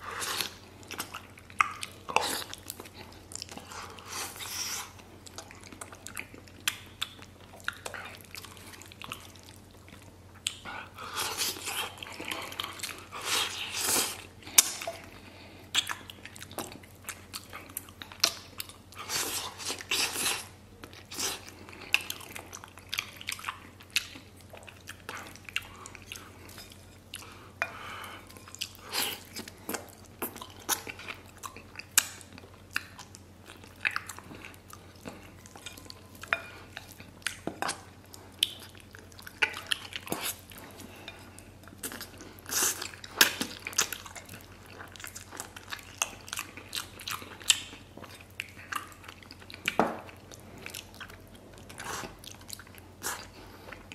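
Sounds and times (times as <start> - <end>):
wet chewing: 0.1 - 53.9.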